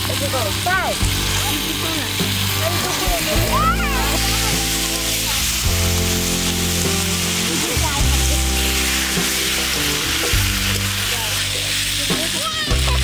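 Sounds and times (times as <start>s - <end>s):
background music: 0.0s - 13.0s
chicken sizzling in a wok: 0.0s - 13.0s.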